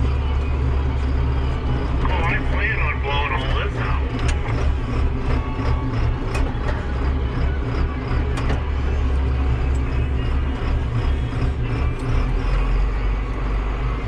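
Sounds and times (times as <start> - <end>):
farm vehicle engine droning: 0.0 - 14.0.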